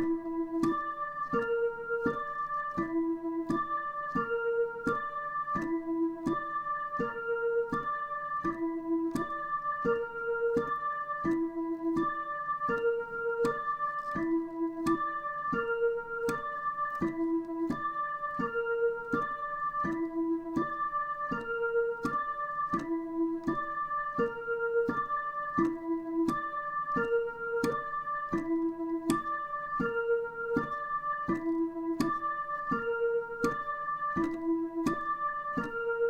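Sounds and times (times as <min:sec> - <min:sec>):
electronic keyboard arpeggio: 0:00.0 - 0:36.0.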